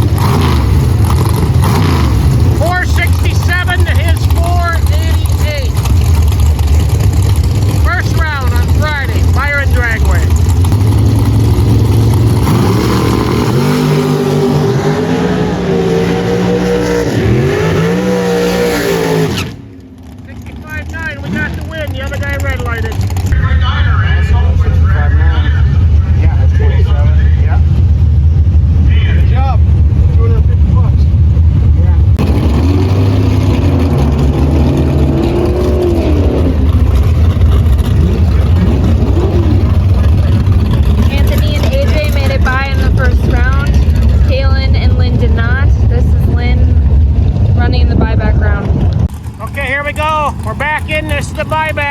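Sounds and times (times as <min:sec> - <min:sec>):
race car accelerating: 0:00.0 - 0:51.9.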